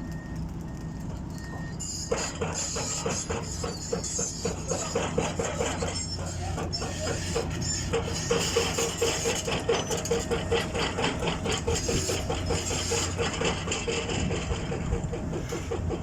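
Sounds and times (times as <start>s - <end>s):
truck engine running with knocking: 0.0s - 16.0s.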